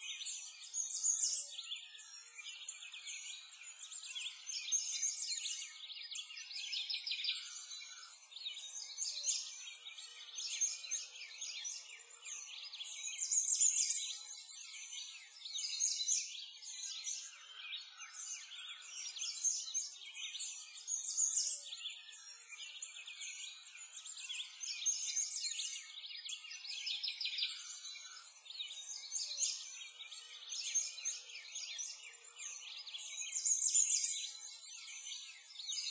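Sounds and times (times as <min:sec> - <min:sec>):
songbirds chirping and trilling: 0:00.0 - 0:35.9.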